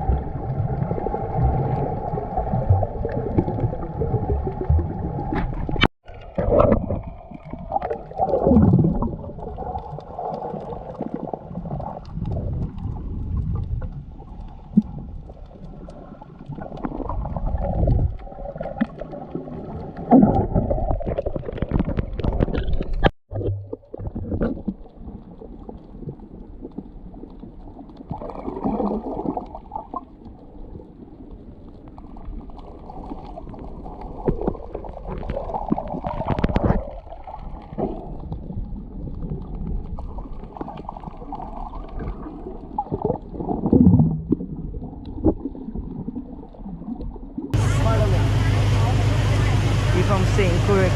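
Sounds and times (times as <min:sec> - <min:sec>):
muffled underwater gurgling: 0:00.0 - 0:30.0, 0:31.4 - 0:50.9.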